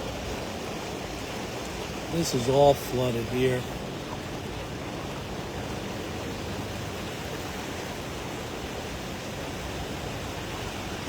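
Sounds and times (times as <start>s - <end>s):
car driving through floodwater: 0.0s - 11.0s.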